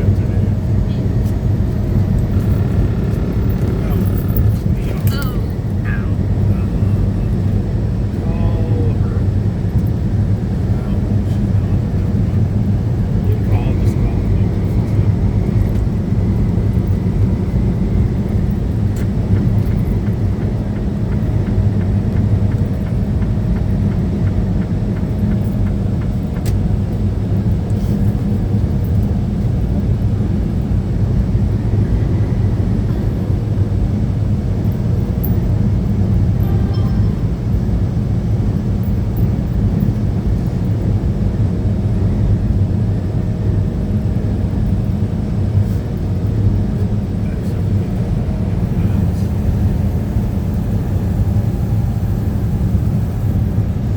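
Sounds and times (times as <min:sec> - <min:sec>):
truck engine and road rumble: 0:00.0 - 0:53.9.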